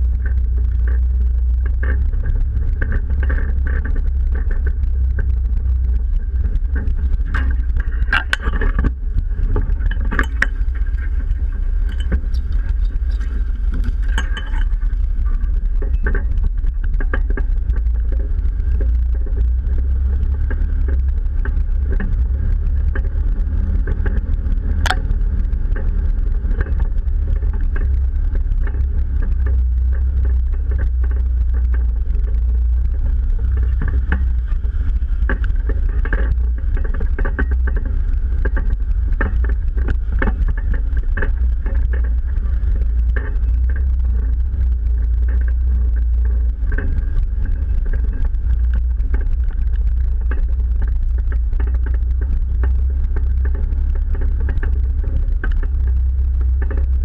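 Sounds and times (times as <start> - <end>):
engine and drivetrain rumble: 0.0 - 57.0
suspension knocks and clicks: 0.0 - 57.0.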